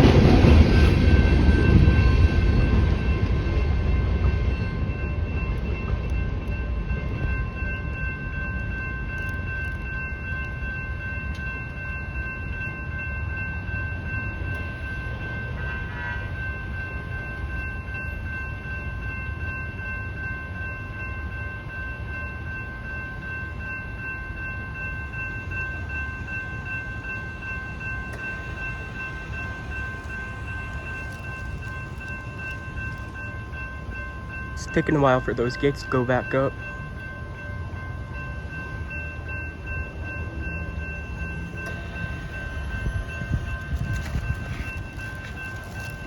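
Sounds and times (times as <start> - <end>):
crossing warning bell ringing: 0.0 - 46.0
train rumble: 0.0 - 46.0.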